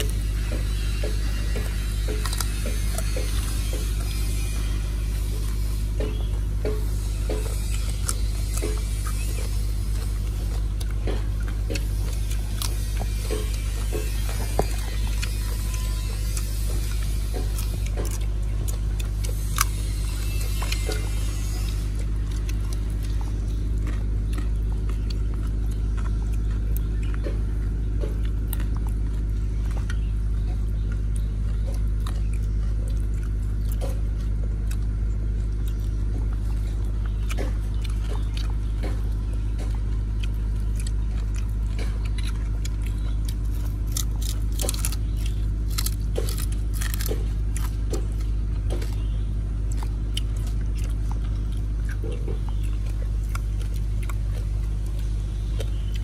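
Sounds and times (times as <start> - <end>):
crunchy chewing: 0.0 - 56.0
steady low hum: 0.0 - 56.0.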